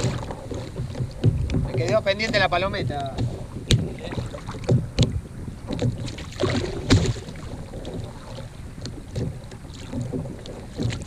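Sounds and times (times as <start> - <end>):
hollow knocks: 0.0 - 11.0
water lapping against plastic hull: 0.0 - 11.0
wind on microphone: 0.0 - 11.0.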